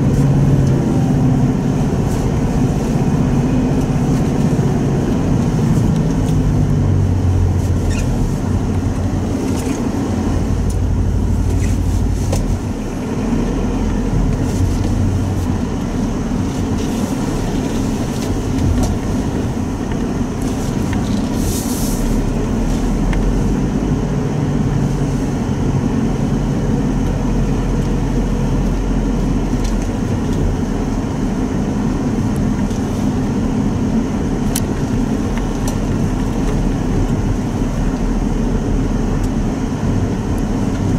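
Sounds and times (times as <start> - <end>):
diesel engine running: 0.0 - 40.9
road noise: 0.0 - 40.9.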